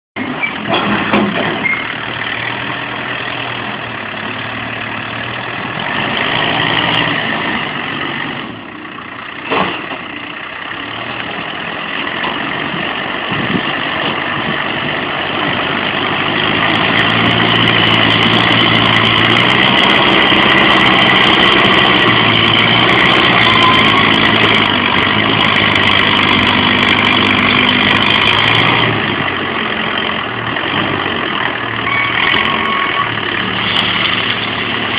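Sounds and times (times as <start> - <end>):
engine running steadily: 0.2 - 34.9.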